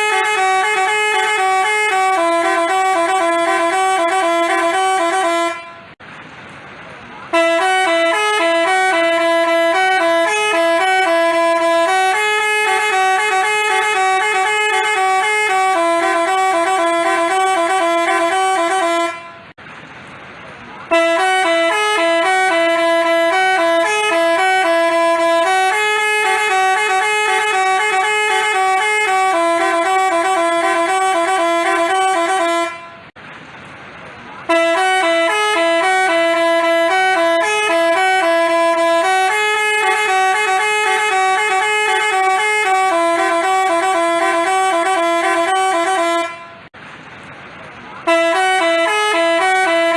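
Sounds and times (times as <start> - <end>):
musical bus horn playing a tune: 0.0 - 6.0, 7.3 - 19.6, 20.9 - 33.2, 34.4 - 46.8, 48.0 - 49.9.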